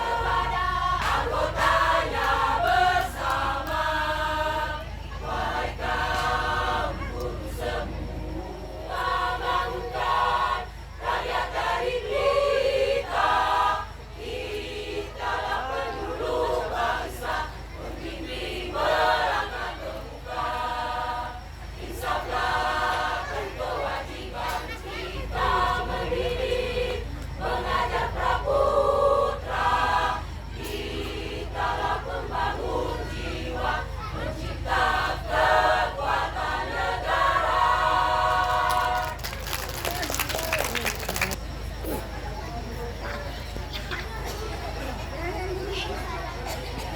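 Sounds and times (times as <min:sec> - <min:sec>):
choir singing held notes: 0:00.0 - 0:41.8.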